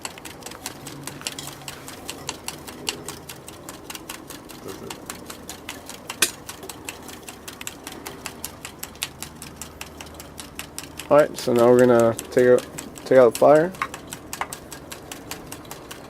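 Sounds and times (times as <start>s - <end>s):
small engine ticking rhythmically: 0.0s - 16.0s.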